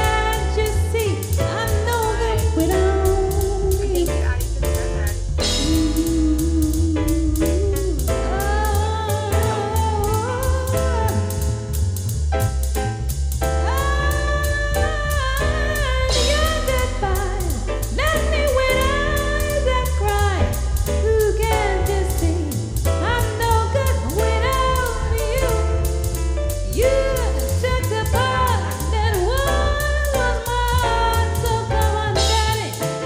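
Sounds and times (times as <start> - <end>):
singing over heavy bass beat: 0.0 - 33.0.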